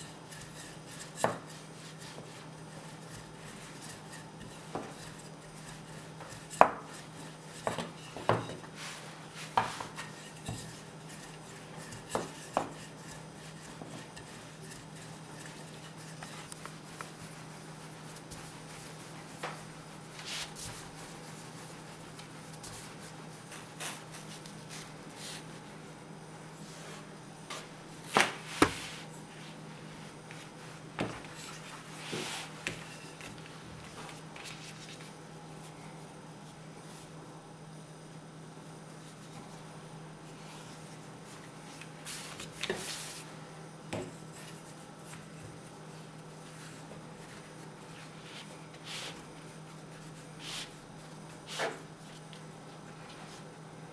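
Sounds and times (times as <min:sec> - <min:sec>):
rolling pin swishing on dough: 0:00.0 - 0:25.8, 0:26.6 - 0:35.8, 0:39.0 - 0:43.4, 0:44.0 - 0:53.5
steady low hum: 0:00.0 - 0:53.9.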